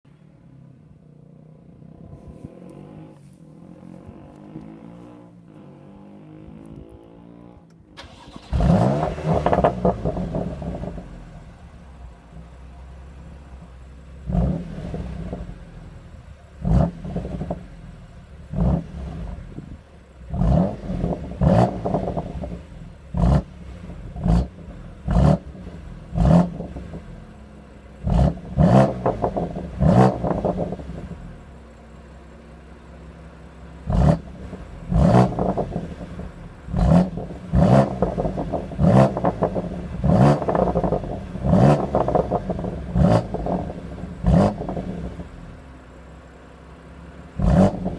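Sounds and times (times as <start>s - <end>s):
engine throttle blips: 7.7s - 47.9s
car engine idling: 8.0s - 47.9s.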